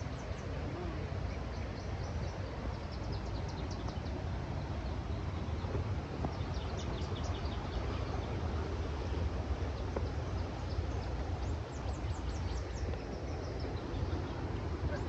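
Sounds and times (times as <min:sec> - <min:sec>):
rushing water and waterfall: 0:00.0 - 0:15.0.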